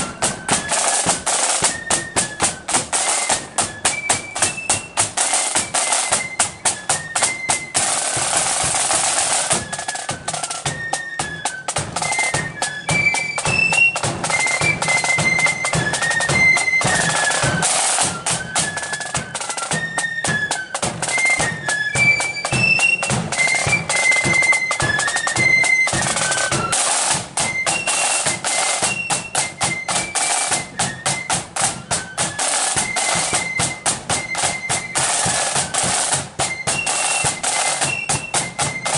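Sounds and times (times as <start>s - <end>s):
high flute melody: 0.0s - 38.9s
snare drum rolls and beats: 0.0s - 38.9s.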